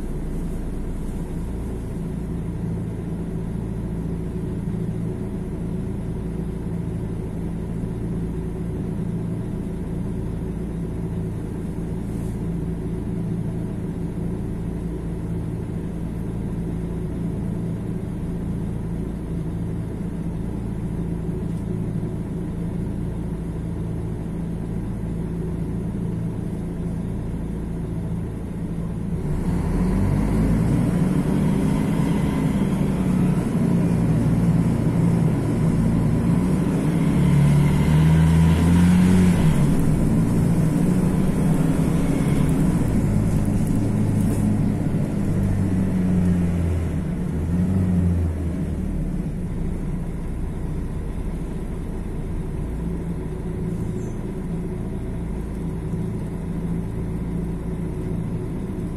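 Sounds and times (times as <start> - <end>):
diesel bus engine idling and revving: 0.0 - 58.9.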